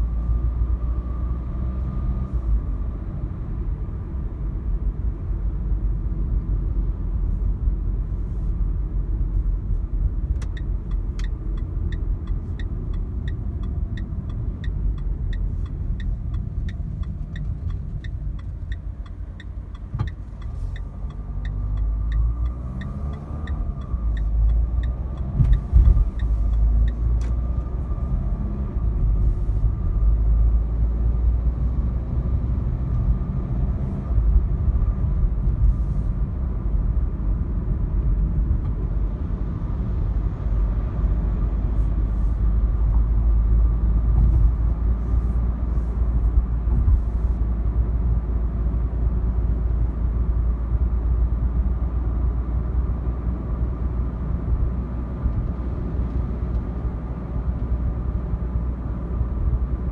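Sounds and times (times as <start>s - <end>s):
diesel engine rumble in car cabin: 0.0s - 59.9s.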